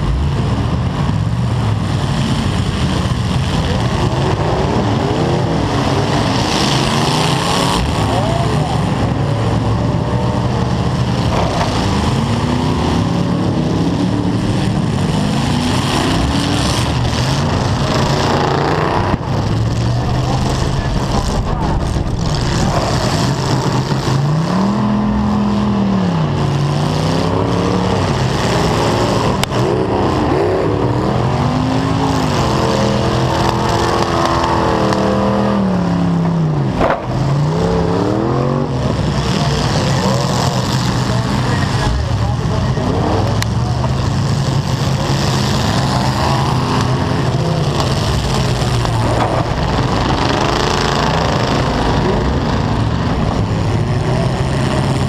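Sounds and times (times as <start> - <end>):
car engine revving hard: 0.0 - 55.0.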